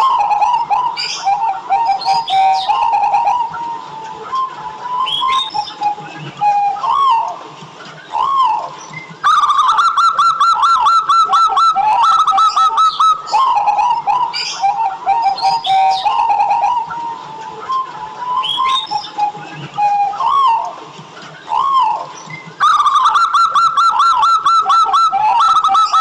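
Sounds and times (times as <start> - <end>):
high chirping: 0.0 - 3.8, 8.0 - 20.7, 21.4 - 26.0
dove cooing: 0.0 - 7.4, 8.0 - 20.8, 21.4 - 26.0.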